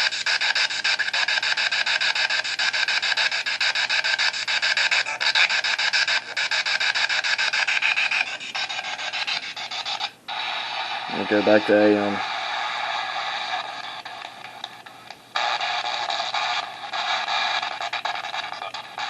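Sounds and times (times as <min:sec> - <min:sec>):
pulsing radio static: 0:00.0 - 0:14.8, 0:15.4 - 0:19.0.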